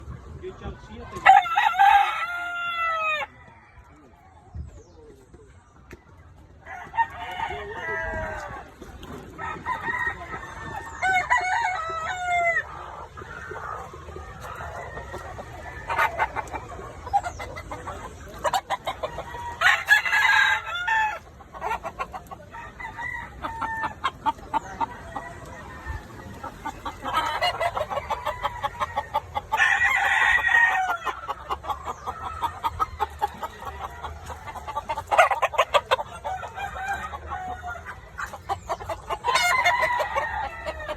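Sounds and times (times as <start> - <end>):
chickens clucking: 0.0 - 40.9
roosters crowing: 1.1 - 4.2, 6.5 - 40.9.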